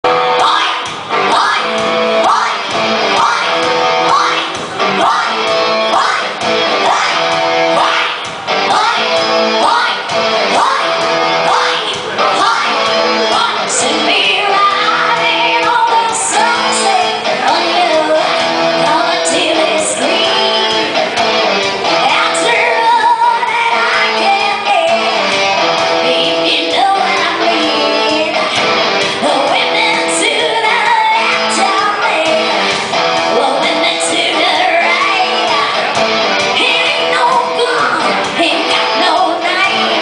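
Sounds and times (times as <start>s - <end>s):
guitar: 0.0s - 40.0s
person singing: 0.1s - 40.0s.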